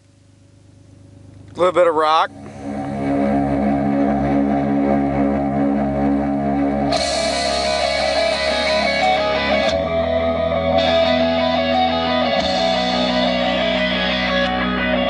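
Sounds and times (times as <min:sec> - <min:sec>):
rock music through car stereo: 0:01.6 - 0:15.0.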